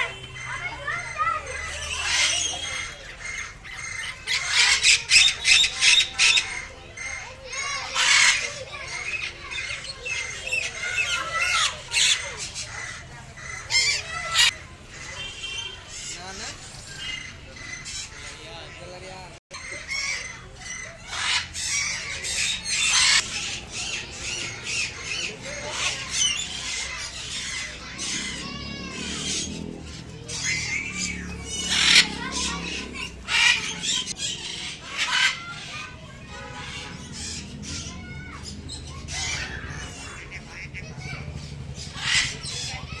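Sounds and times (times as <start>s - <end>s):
birds chirping and whistling: 0.0s - 18.4s, 19.5s - 43.0s
birds squawking: 0.0s - 43.0s
people chattering: 0.0s - 43.0s.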